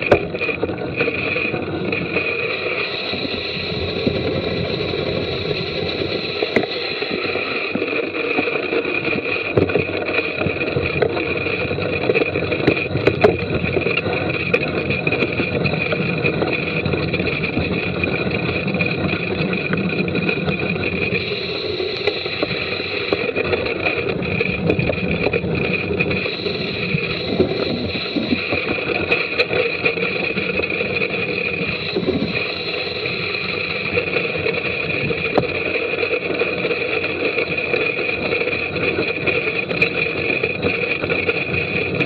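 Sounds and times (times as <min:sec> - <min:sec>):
bike tyres rumbling and rattling: 0:00.0 - 0:42.0.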